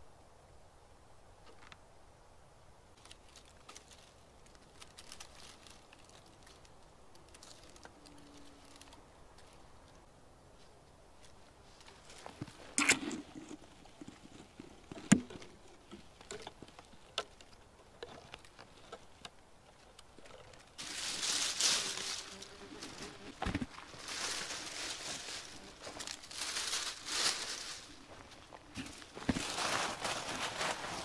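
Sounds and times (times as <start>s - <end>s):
rustling of dry branches: 1.3s - 31.0s.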